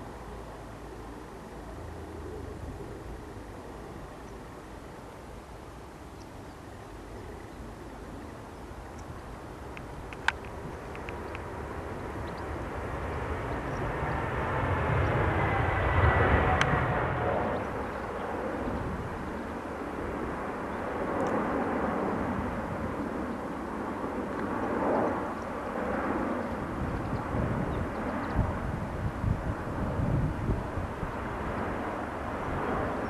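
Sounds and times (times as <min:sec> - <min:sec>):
jet airliner flying by: 0:00.0 - 0:33.0
jet engine whine: 0:00.0 - 0:33.0.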